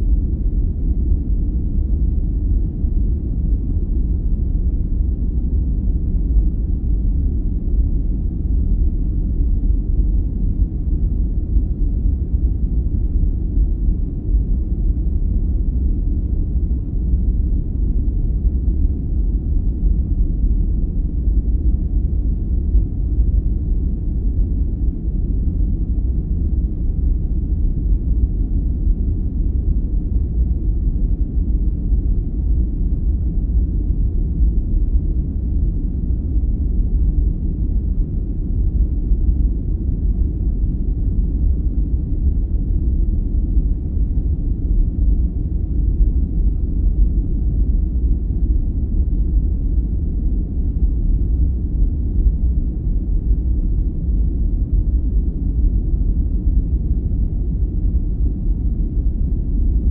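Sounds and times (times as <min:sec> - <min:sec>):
steady deep rumble noise: 0:00.0 - 0:59.9.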